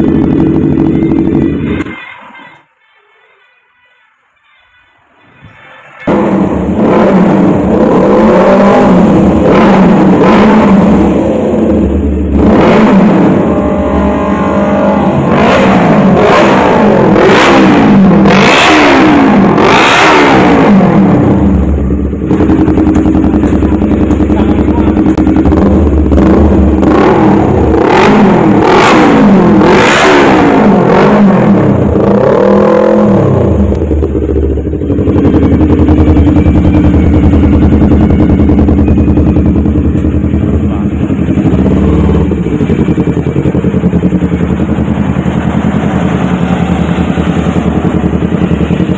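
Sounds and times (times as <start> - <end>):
motorcycle engine revving: 0.0 - 1.8, 6.0 - 48.9.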